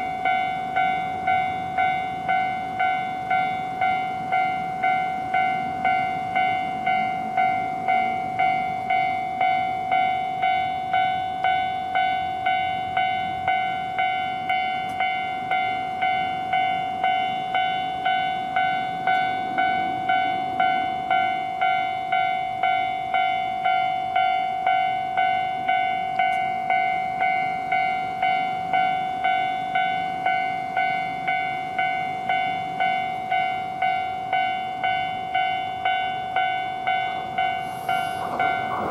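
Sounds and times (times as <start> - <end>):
level crossing warning bell: 0.0 - 38.9.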